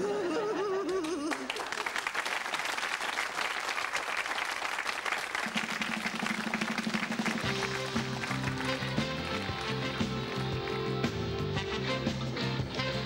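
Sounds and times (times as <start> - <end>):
audience applauding: 0.8 - 11.8.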